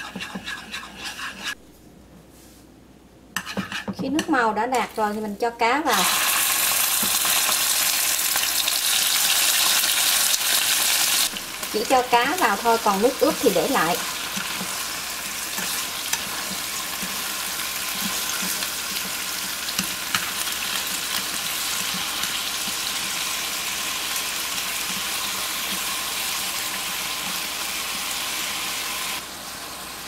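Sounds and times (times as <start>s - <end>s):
fish sizzling in a frying pan: 5.9s - 30.0s.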